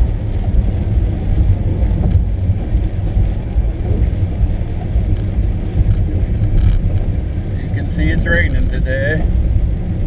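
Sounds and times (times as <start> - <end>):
car driving on wet road: 0.0 - 10.0.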